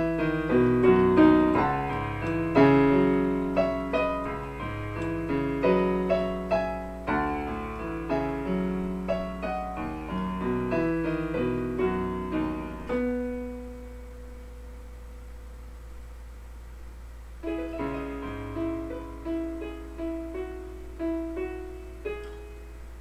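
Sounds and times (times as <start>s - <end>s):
piano notes and chords: 0.0s - 16.0s, 17.4s - 23.0s
steady low hum: 0.0s - 23.0s.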